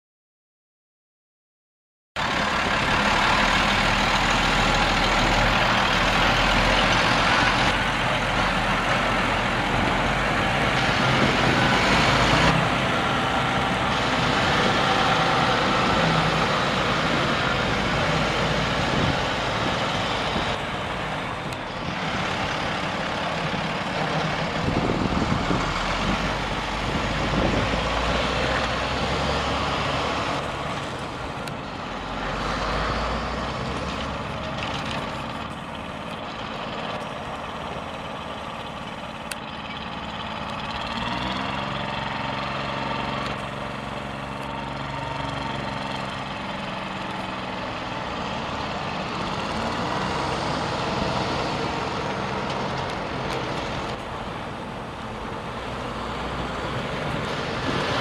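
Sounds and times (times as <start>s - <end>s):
diesel truck engine running: 2.2s - 58.0s.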